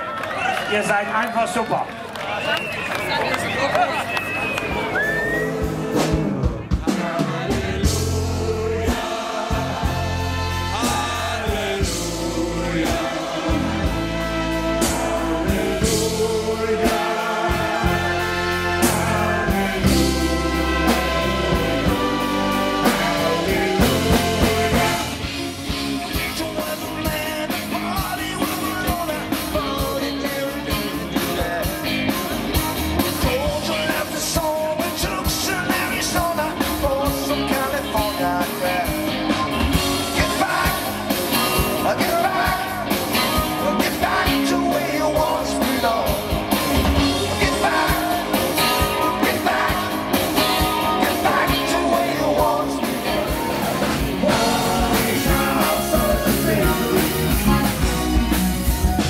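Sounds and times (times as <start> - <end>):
live rock band: 2.6 - 59.0.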